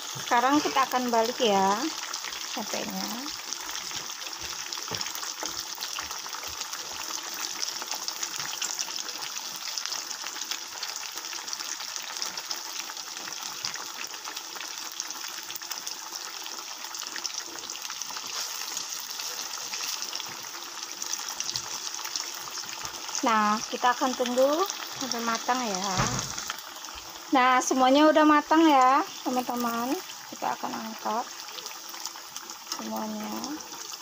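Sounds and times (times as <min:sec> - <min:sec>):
food deep-frying in hot oil: 0:00.0 - 0:34.0.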